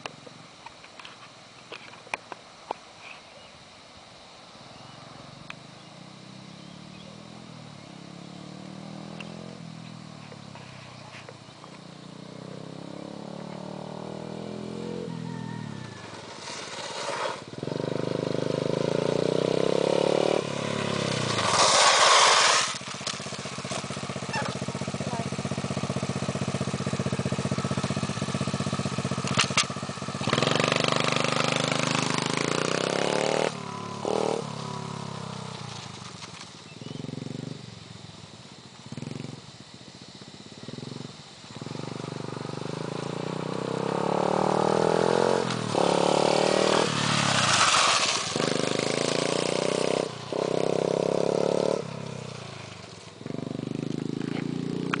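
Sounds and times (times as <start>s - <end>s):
motorbike engine revving: 6.1s - 10.7s, 11.7s - 39.8s, 40.4s - 55.0s.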